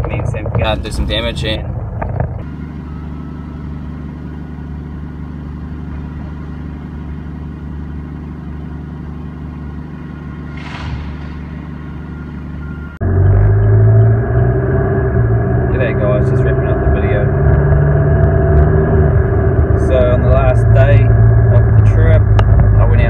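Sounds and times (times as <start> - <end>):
engine droning: 0.0 - 23.0.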